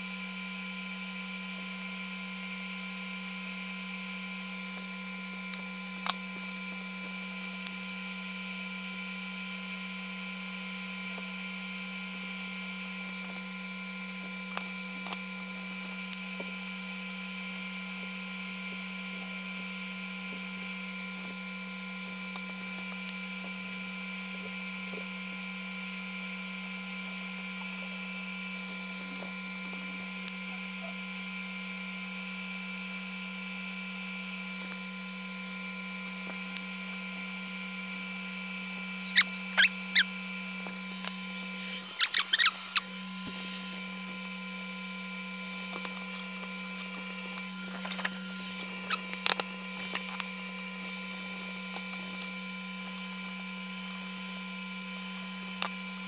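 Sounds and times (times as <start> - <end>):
welder electrical hum: 0.0 - 56.0.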